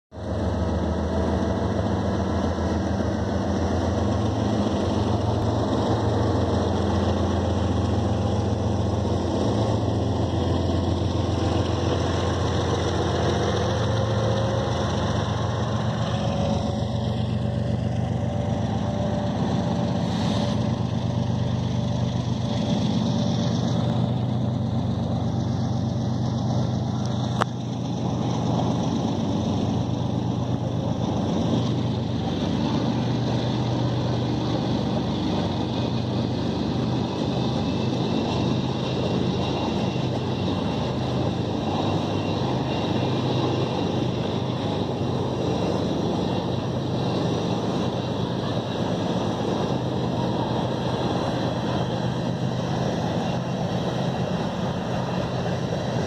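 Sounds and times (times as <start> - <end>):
diesel locomotive engines droning: 0.1 - 56.0
freight cars rumbling on rails: 0.1 - 56.0.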